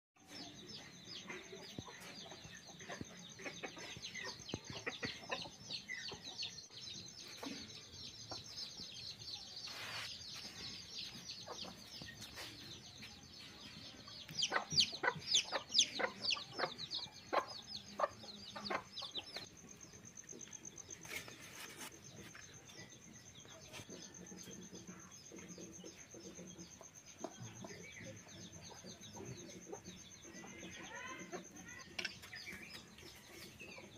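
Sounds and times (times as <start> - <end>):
chickens clucking: 0.2 - 33.9.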